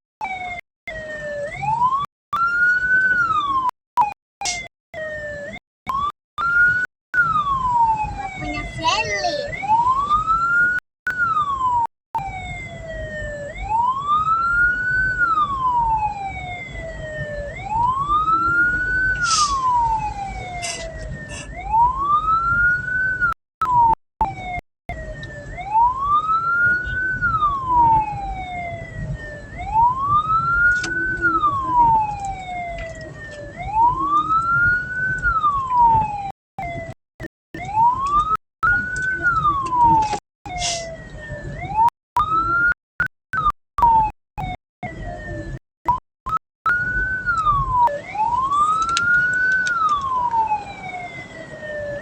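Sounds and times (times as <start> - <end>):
siren wailing: 0.2 - 52.0.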